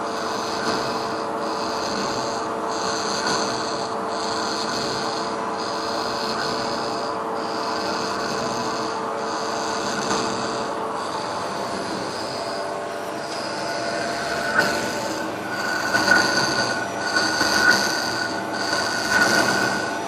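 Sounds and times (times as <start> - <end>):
machine servo whine: 0.0 - 20.0.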